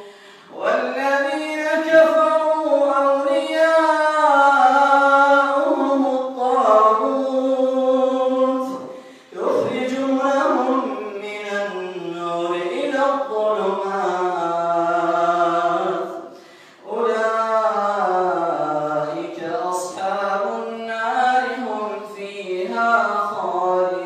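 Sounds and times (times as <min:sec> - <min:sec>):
man chanting melodic recitation: 0:00.0 - 0:24.0.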